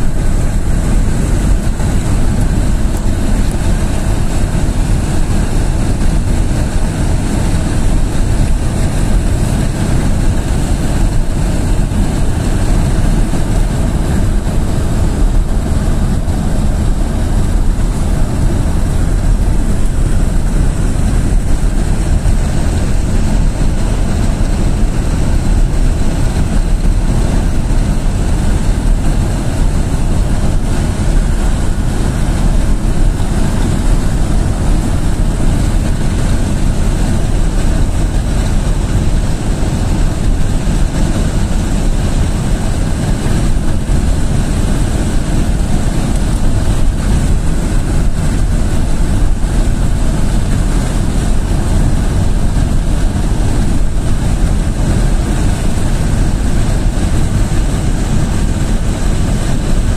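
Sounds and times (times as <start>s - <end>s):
vehicle driving on gravel road: 0.0s - 59.9s.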